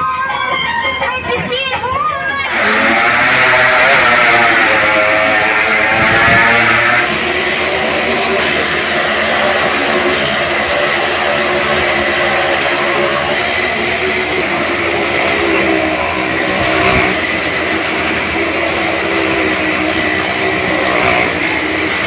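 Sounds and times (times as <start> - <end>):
motorcycle engines droning: 0.0 - 22.0.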